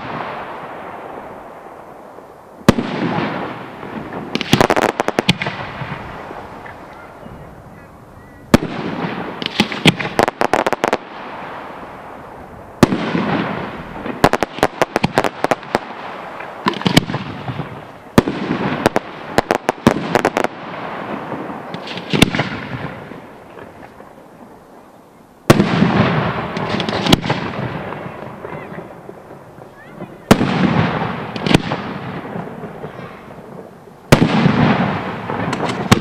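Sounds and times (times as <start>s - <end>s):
firework bangs: 0.0s - 7.8s, 8.4s - 24.6s, 25.4s - 36.0s
firework crackling: 0.0s - 36.0s.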